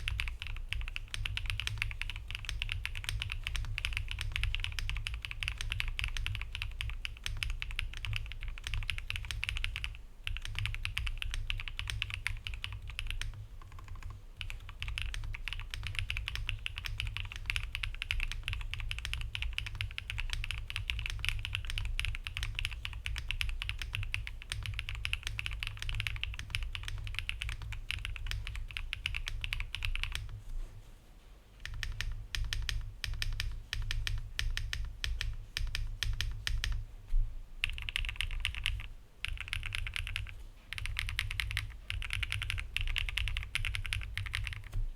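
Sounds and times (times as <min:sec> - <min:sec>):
typing on mechanical keyboard: 0:00.0 - 0:30.4, 0:31.6 - 0:36.8, 0:37.6 - 0:44.8.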